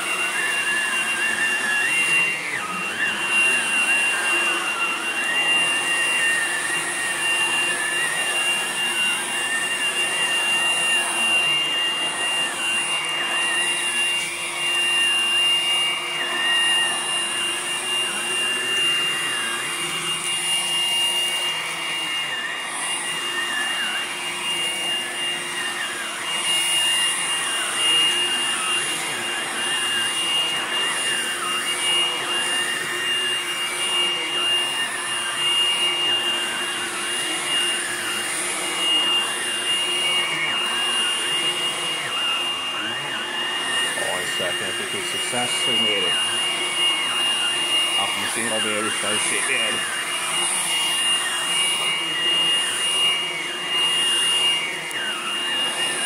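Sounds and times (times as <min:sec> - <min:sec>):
stick vacuum running: 0:00.0 - 0:56.0.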